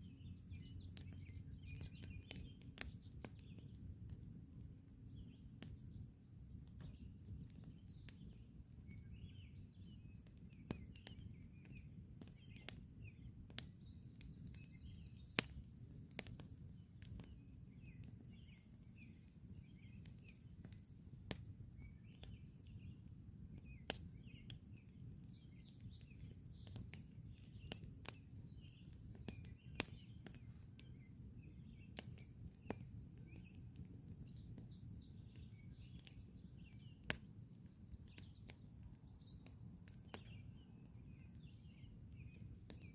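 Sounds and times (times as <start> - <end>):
campfire crackling: 0.0 - 42.9
small birds chirping: 0.0 - 42.9
sharp pops of burning wood: 0.2 - 42.9.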